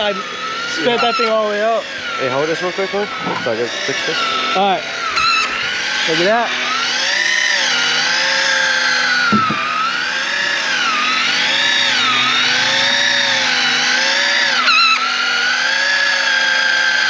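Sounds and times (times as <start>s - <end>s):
electric fishing reel motor whining: 0.0s - 17.0s.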